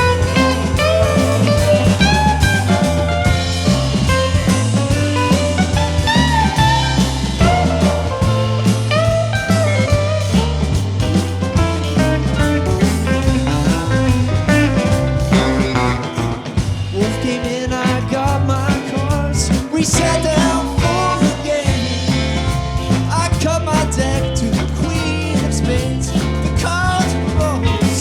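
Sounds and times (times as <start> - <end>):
bass guitar: 0.0 - 28.0
drum kit: 0.0 - 28.0
electric guitar notes bending: 0.0 - 28.0.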